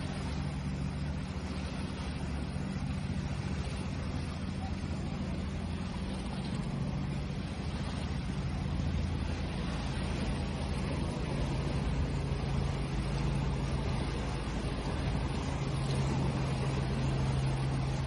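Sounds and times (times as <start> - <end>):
low steady hum: 0.0 - 18.0
ocean waves washing in: 0.0 - 18.0.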